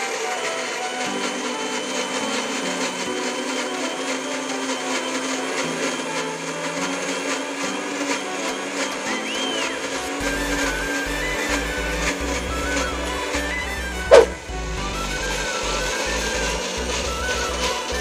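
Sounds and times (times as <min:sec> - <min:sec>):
electric blender running: 0:00.0 - 0:18.0.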